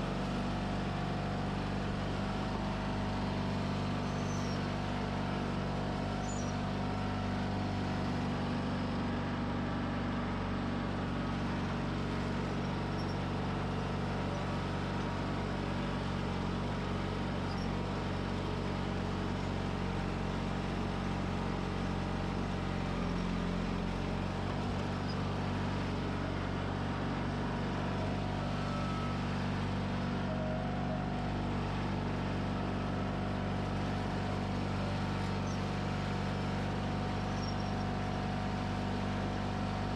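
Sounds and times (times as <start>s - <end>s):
garden tractor engine droning: 0.0s - 39.9s.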